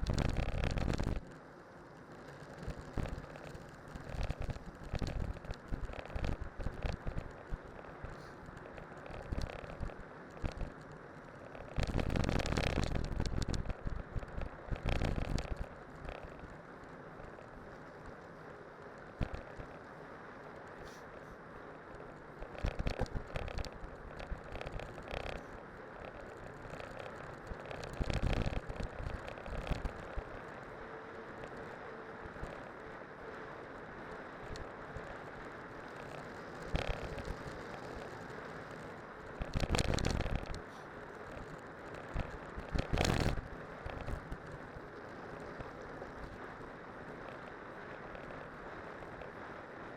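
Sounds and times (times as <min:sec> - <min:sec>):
bicycle tyres crunching on snow: 0:00.0 - 0:49.9.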